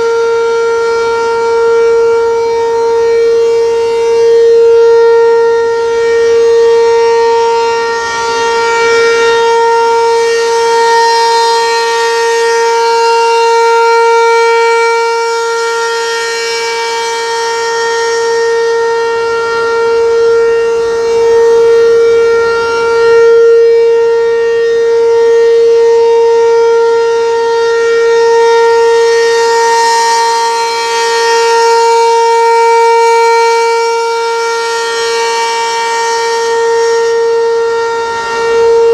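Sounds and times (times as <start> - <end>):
rotating warning siren steady tone: 0.0 - 38.9.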